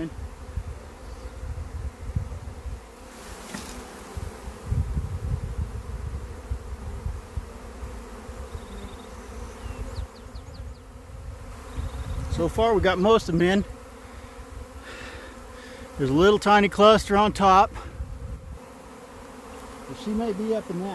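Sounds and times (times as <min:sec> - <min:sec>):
bees buzzing: 0:00.0 - 0:20.9.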